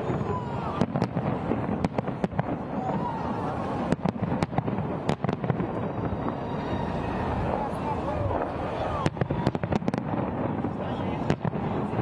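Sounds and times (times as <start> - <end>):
crowd voices: 0.0 - 12.0
fireworks bangs: 0.0 - 12.0.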